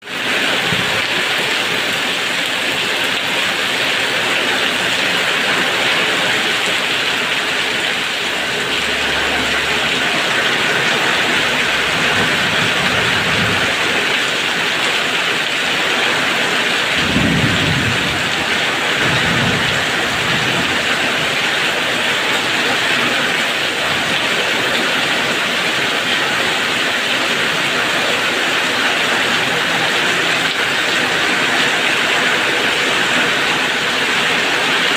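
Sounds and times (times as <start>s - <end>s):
heavy rainfall: 0.0s - 34.9s.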